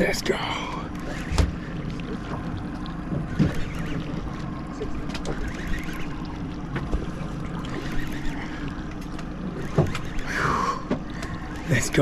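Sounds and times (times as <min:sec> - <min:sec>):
boat engine humming: 0:00.0 - 0:12.0
sea noise: 0:00.0 - 0:12.0
wind: 0:00.0 - 0:12.0.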